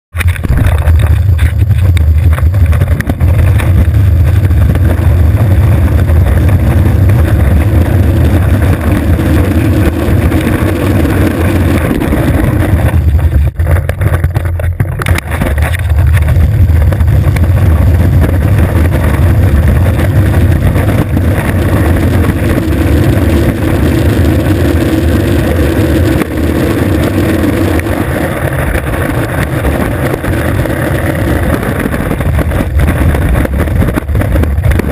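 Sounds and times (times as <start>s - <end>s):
skateboard wheels rolling on asphalt: 0.1s - 34.9s.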